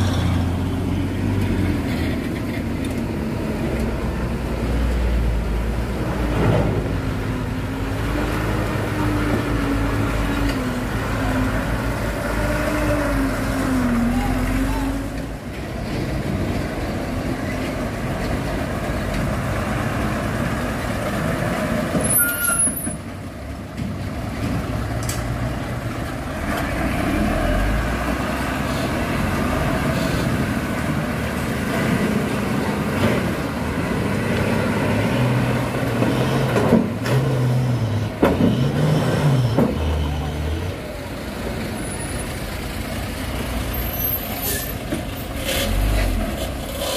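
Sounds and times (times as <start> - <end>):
diesel truck engine under load: 0.0 - 46.9.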